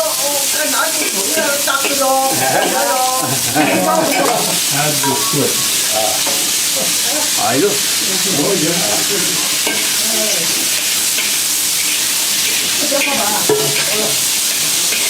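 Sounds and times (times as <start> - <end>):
squid sizzling in hot oil: 0.0 - 15.0.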